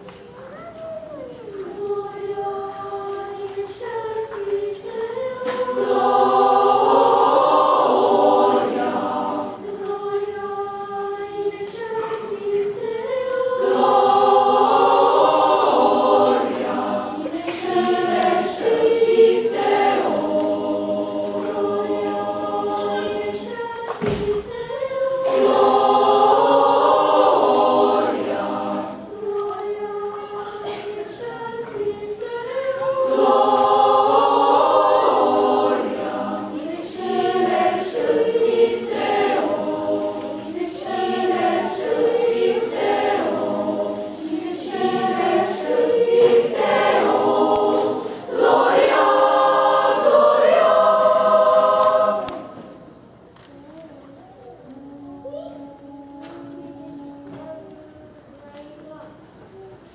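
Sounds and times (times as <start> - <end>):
choir singing a cappella: 1.6 - 53.2.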